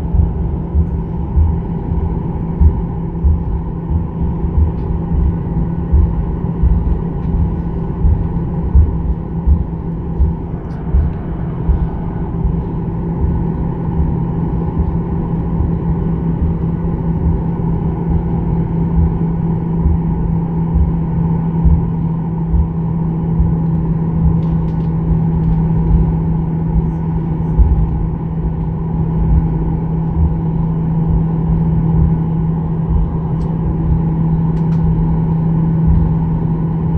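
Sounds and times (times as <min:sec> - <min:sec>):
jet engine drone: 0:00.0 - 0:36.9.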